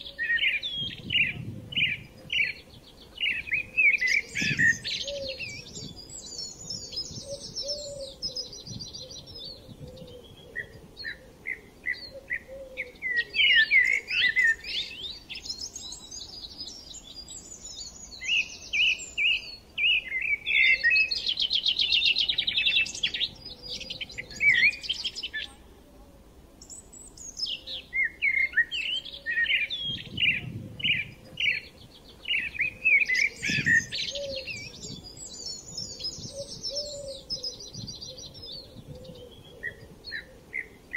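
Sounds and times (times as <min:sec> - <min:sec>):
small birds chirping: 0:00.0 - 0:25.7, 0:26.6 - 0:40.9.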